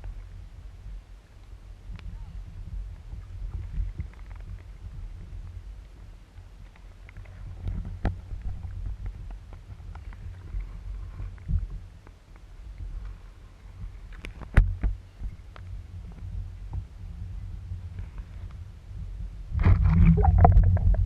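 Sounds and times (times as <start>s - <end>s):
muffled underwater water rumble: 1.8s - 21.0s.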